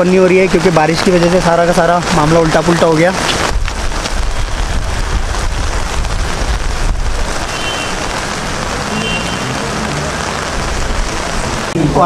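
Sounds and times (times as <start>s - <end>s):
rain falling on wet street: 0.0s - 12.0s.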